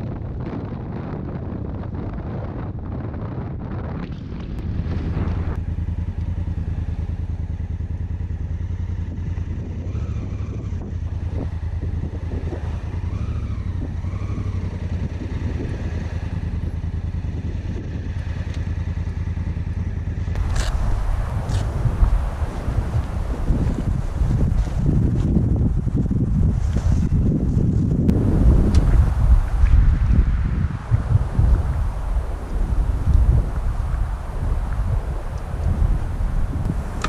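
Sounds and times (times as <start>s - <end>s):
motorcycle engine throbbing: 0.0s - 37.0s
wind noise: 0.0s - 37.0s.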